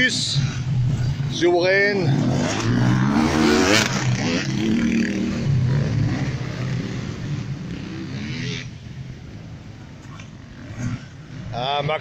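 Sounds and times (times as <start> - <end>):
motorcycle engine revving past: 0.0 - 11.8.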